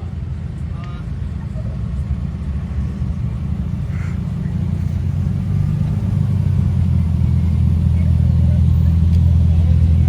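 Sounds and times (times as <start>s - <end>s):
car engine and exhaust rumbling: 0.0s - 10.0s.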